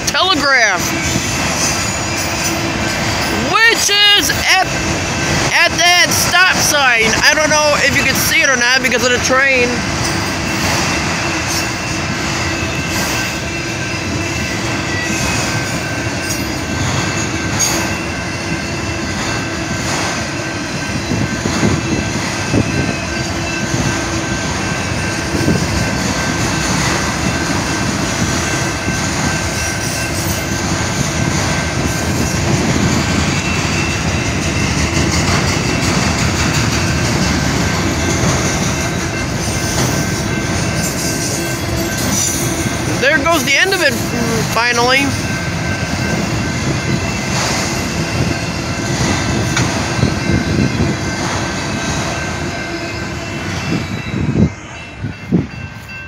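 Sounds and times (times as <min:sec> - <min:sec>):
steel wheels on rails: 0:00.0 - 0:56.0.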